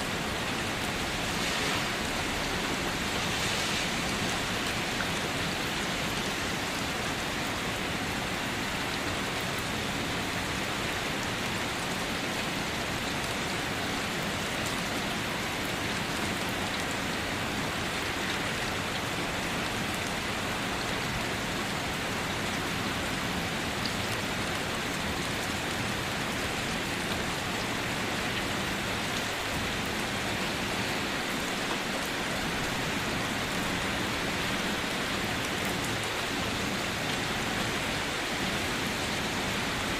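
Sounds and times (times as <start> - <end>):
rain pattering on foliage: 0.0 - 39.9.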